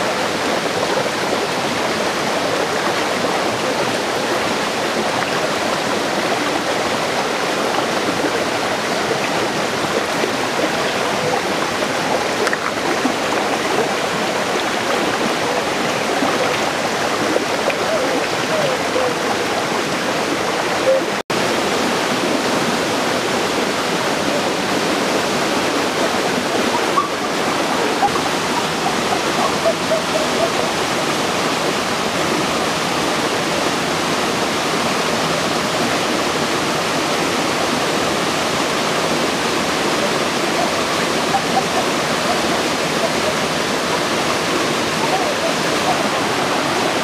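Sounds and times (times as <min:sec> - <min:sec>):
stream cascading over waterfall: 0:00.0 - 0:47.0.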